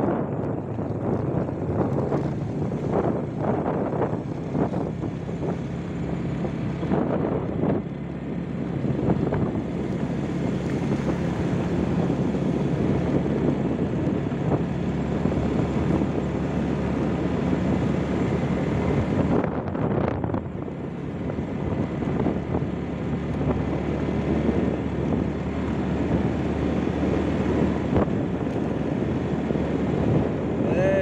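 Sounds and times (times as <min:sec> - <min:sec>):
road noise on gravel: 0:00.0 - 0:31.0
vehicle engine hum: 0:00.0 - 0:31.0
wind on microphone: 0:00.0 - 0:31.0.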